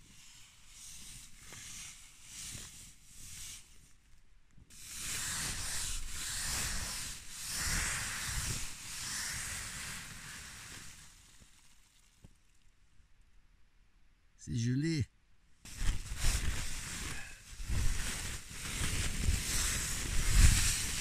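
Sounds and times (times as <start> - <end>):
frozen fabric rustling: 0.0 - 12.8, 15.6 - 21.0.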